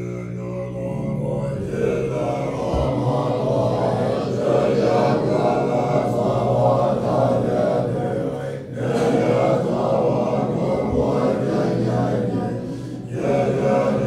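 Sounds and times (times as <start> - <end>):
chant-like voices: 0.0 - 14.0
low drone: 0.0 - 14.0.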